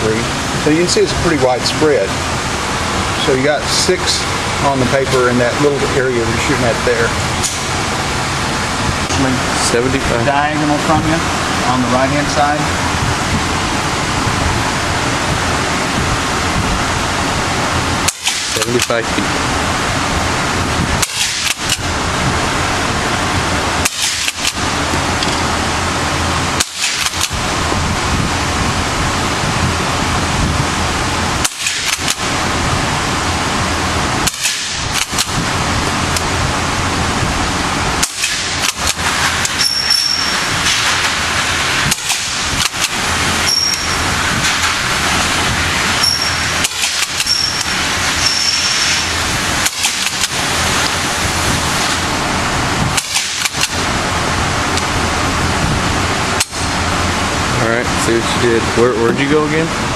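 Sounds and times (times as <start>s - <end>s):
loud steady background noise: 0.0s - 59.9s.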